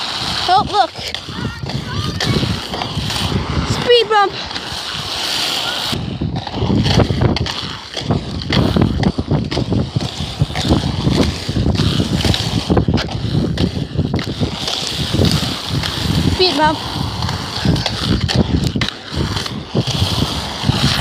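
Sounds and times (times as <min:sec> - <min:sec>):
small wheels rolling on asphalt: 0:00.0 - 0:21.0
wind buffeting microphone: 0:00.0 - 0:21.0.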